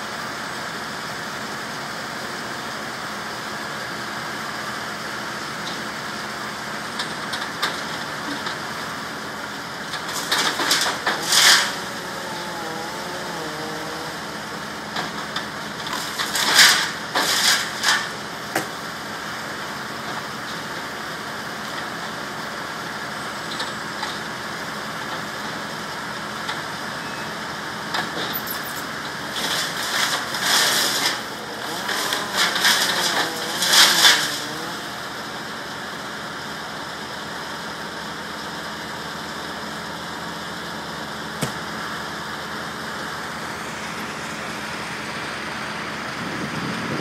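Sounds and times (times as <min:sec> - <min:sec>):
engine running: 0:00.0 - 0:47.0.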